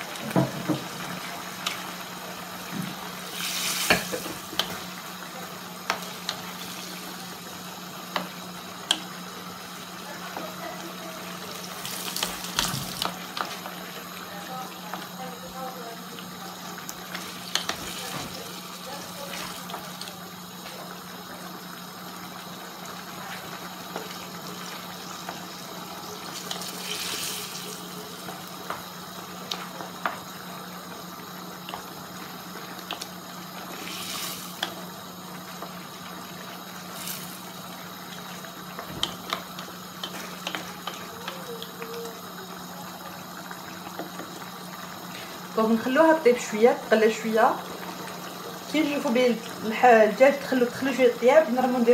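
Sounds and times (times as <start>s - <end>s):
sauce simmering and bubbling: 0.1s - 49.6s.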